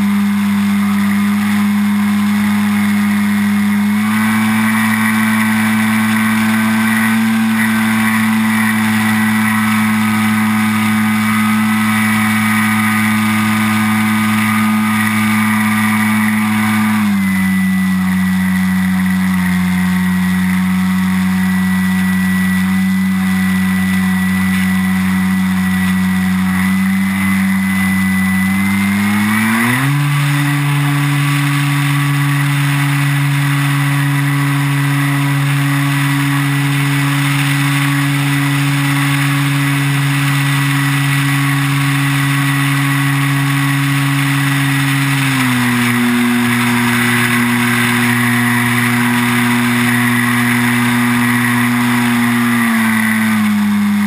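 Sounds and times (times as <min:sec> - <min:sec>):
model plane electric motor hum: 0:00.0 - 0:54.0.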